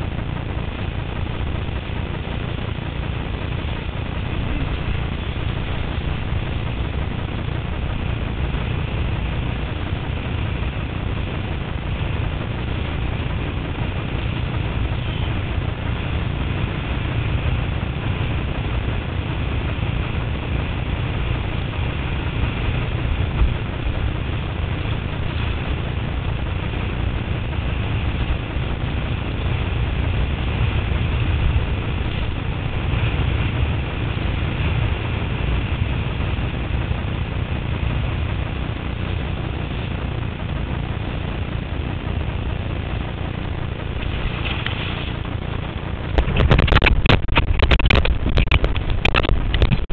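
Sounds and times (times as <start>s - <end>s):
water rushing: 0.0s - 49.9s
wind buffeting microphone: 0.0s - 49.9s.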